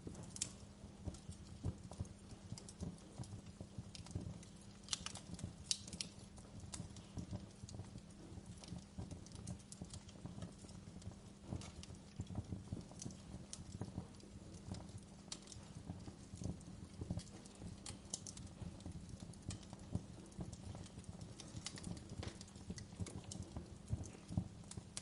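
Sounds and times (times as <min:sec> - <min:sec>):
fireplace fire crackling and popping: 0:00.0 - 0:25.0
low rumble of flames: 0:00.0 - 0:25.0.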